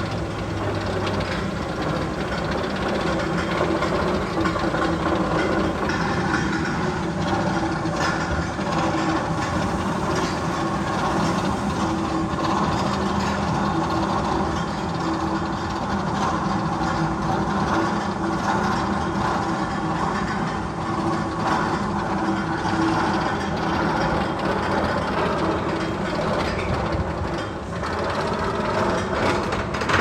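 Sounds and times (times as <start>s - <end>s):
train-like rumble and clatter: 0.0s - 30.0s.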